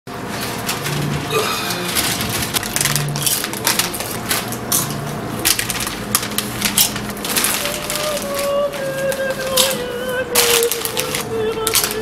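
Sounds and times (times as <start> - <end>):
tortilla chips crunching: 0.3 - 12.0.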